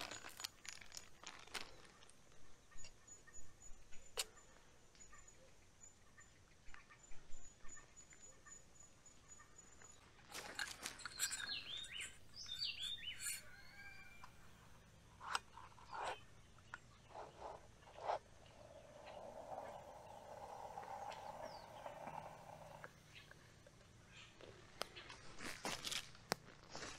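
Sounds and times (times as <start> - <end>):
birds chirping: 1.7 - 25.2.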